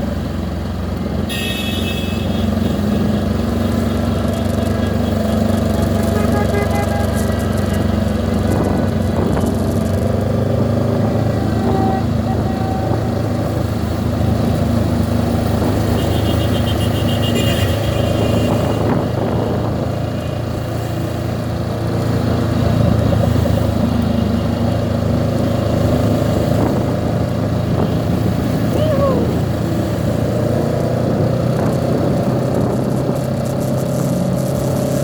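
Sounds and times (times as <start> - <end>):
motorcycle engine humming: 0.0 - 35.0
road and wind noise: 0.0 - 35.0.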